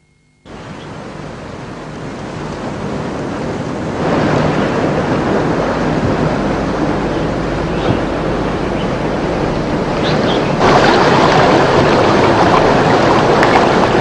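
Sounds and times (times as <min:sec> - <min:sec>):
stream rushing over rocks: 0:01.9 - 0:14.0.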